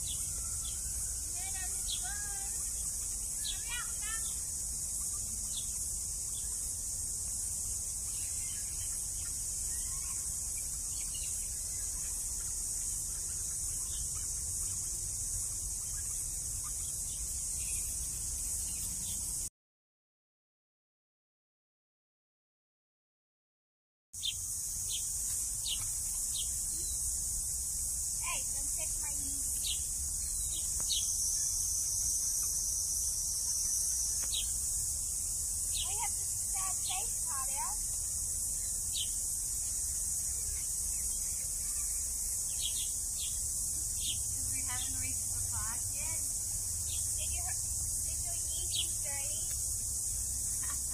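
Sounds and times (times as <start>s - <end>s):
faint bird chirps: 0.0s - 6.8s, 7.7s - 19.5s, 24.2s - 27.2s, 28.2s - 46.2s, 46.8s - 50.9s
high-pitched insect chorus: 0.0s - 19.5s, 24.2s - 50.9s.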